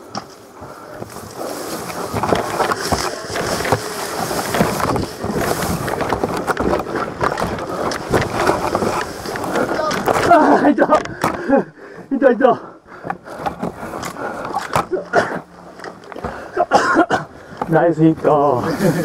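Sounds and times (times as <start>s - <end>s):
rustling through vegetation: 0.0s - 19.0s.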